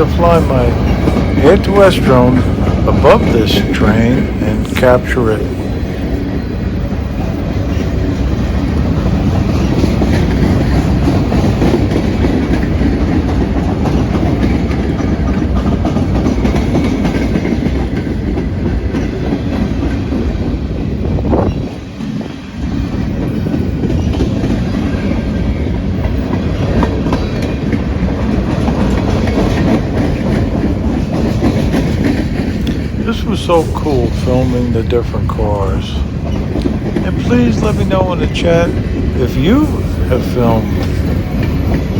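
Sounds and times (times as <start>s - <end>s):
freight train rumble: 0.0s - 41.9s
wheels clacking over rail joints: 0.0s - 41.9s.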